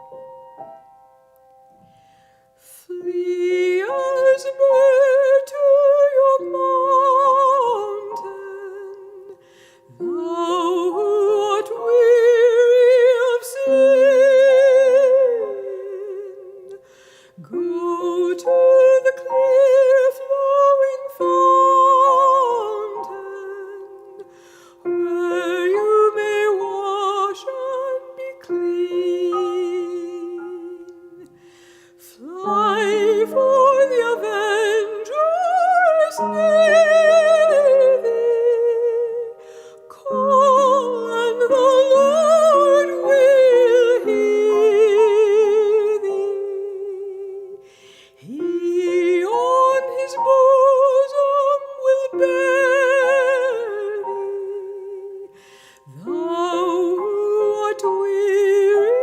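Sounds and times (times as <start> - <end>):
operatic soprano singing: 2.6 - 59.0.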